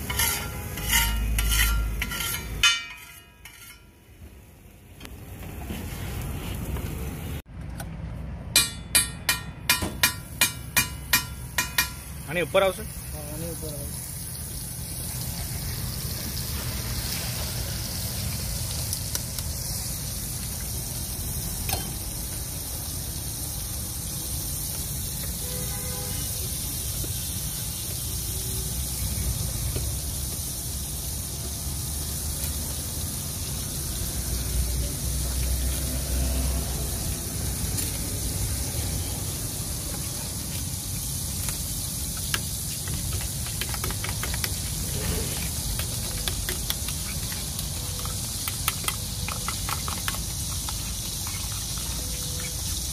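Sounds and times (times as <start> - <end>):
butter sizzling on griddle: 0.0 - 4.8, 10.2 - 52.9.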